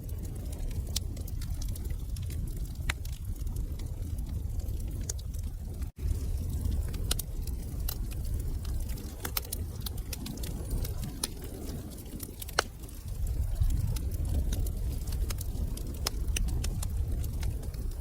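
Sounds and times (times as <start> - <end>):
fire crackles and pops: 0.0 - 18.0
fire flames rumbling: 0.0 - 18.0.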